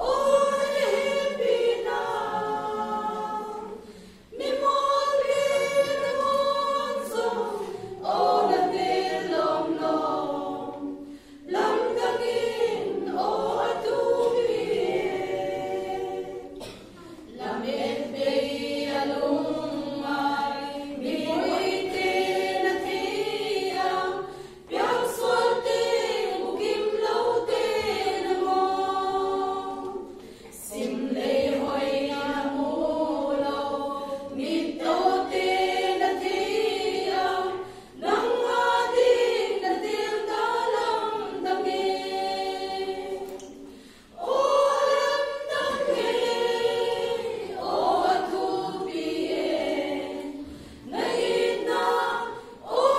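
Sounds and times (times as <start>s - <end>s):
women's choir singing a hymn: 0.0s - 52.9s.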